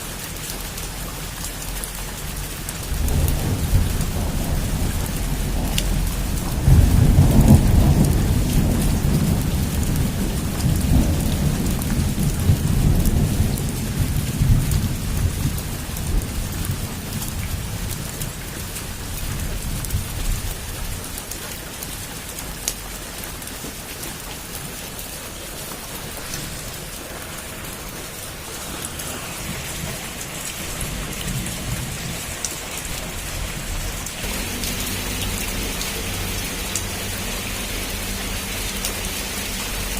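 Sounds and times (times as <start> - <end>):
heavy rain falling: 0.0 - 39.9
low rumble of thunder: 2.3 - 21.3, 25.7 - 39.9.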